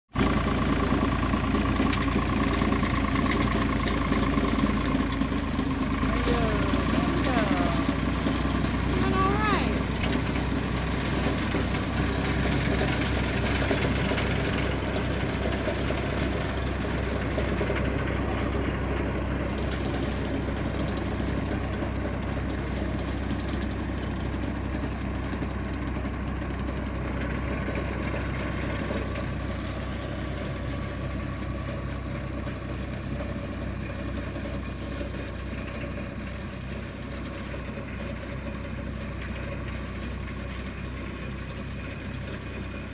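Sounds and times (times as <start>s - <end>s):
tractor engine running: 0.1s - 42.9s.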